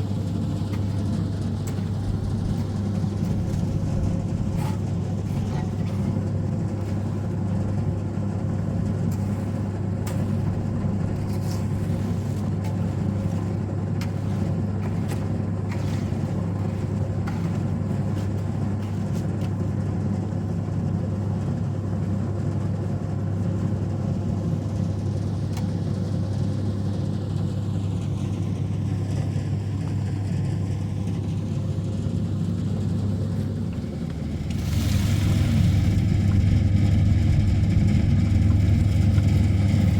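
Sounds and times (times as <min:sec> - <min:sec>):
engine drone with low hum: 0:00.0 - 0:39.9.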